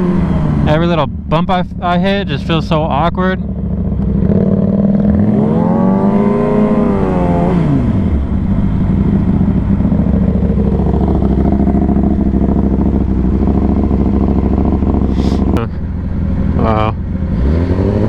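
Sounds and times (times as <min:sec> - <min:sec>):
sport bike engine revving: 0:00.0 - 0:18.0.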